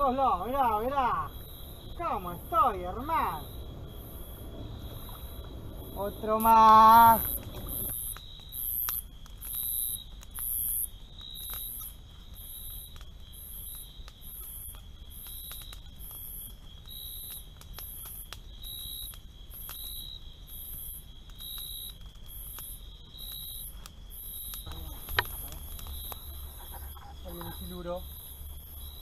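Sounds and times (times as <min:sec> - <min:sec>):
campfire crackling and popping: 0:00.0 - 0:29.0
night insects chirping: 0:00.0 - 0:29.0.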